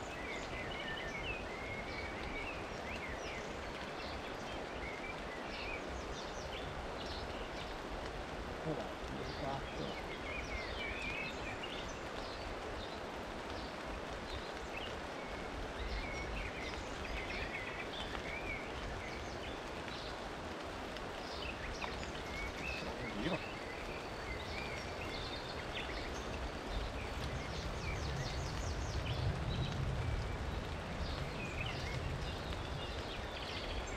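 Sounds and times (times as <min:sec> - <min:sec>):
birds chirping: 0:00.0 - 0:33.9
rain patter: 0:00.0 - 0:33.9.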